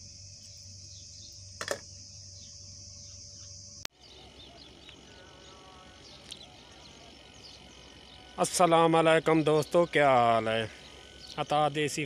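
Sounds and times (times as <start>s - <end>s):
bird chirps: 0.0s - 12.0s
insects buzzing: 0.0s - 12.0s
open-air ambience: 0.0s - 12.0s.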